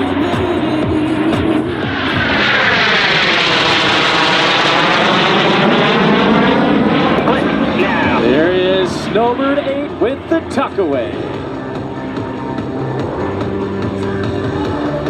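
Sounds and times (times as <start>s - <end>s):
jet aircraft flying past: 1.1s - 15.0s.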